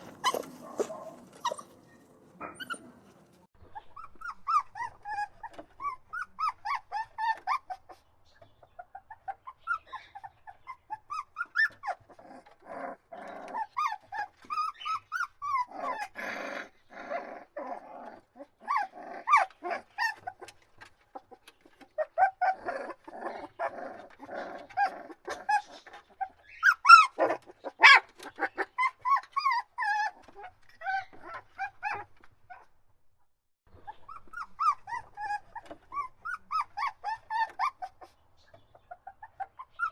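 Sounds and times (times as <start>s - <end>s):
puppies whining and crying: 0.0s - 8.0s, 8.7s - 32.7s, 33.8s - 38.2s, 38.8s - 39.9s.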